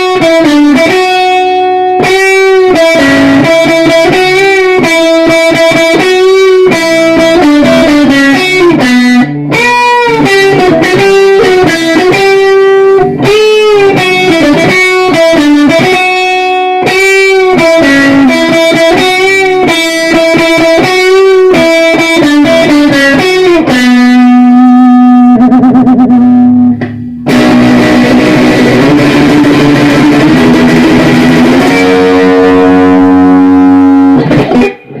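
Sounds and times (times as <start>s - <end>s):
electric guitar lead melody: 0.0s - 35.0s.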